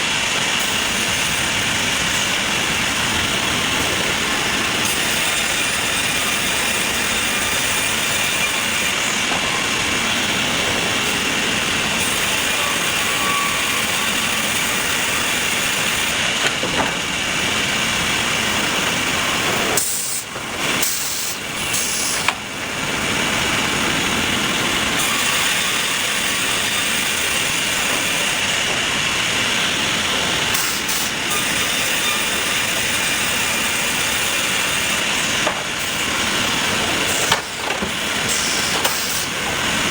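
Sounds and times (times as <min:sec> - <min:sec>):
sawmill machinery hissing: 0:00.0 - 0:39.9.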